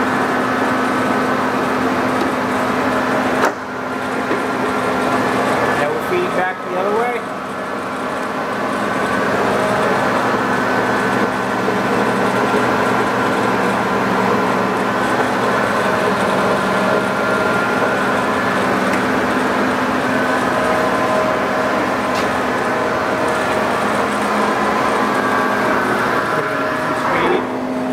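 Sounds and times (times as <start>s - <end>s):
lathe mechanical hum: 0.0s - 27.9s
whining gear tones: 0.0s - 27.9s.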